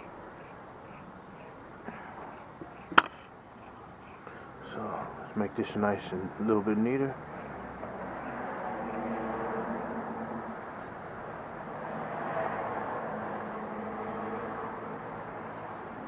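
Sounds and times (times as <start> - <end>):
passing traffic engine drone: 0.0 - 16.0.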